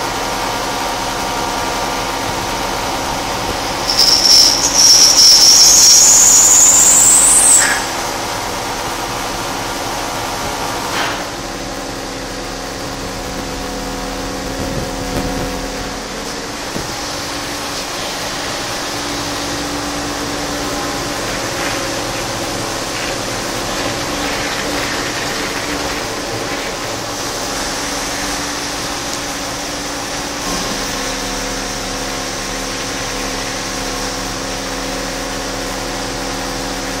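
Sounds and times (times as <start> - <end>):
industrial machinery humming: 0.0 - 37.0.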